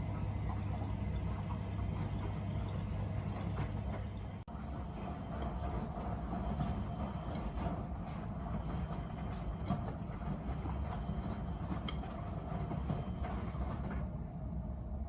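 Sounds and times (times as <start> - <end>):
washing machine rumbling: 0.0 - 15.0.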